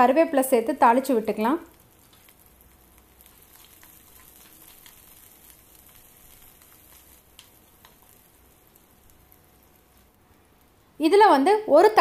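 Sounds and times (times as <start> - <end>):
food sizzling in hot oil: 0.0 - 12.0
small crackles: 0.8 - 11.0.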